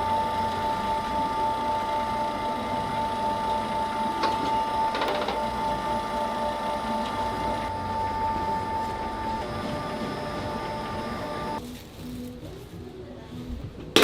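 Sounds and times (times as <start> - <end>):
machine humming: 0.0 - 11.6.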